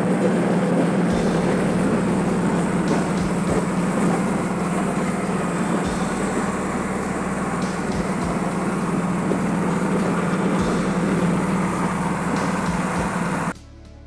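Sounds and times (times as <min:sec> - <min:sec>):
light bumps: 0:00.0 - 0:13.5
vehicle engine and road drone: 0:00.0 - 0:13.6.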